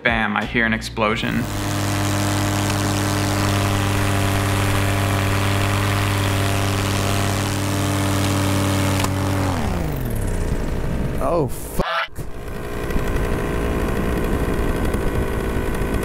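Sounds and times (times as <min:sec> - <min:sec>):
paramotor engine and propeller: 0:01.4 - 0:16.0.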